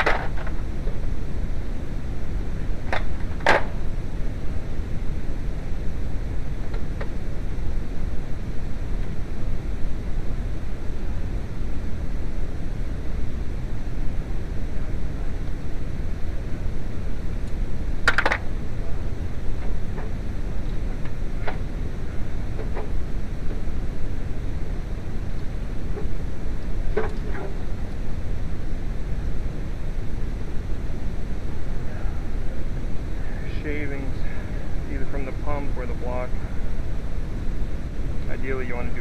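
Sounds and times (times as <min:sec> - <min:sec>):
low rumbling noise: 0:00.0 - 0:39.0.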